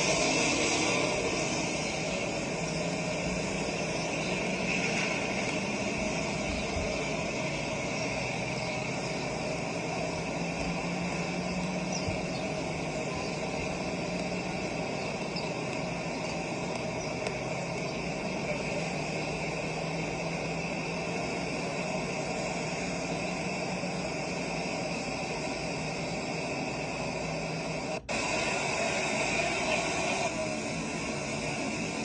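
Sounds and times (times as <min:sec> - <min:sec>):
engine humming with hiss: 0:00.0 - 0:32.0.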